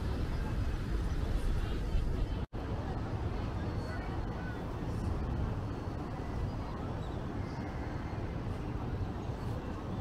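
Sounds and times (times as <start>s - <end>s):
city background rumble: 0.0s - 10.0s.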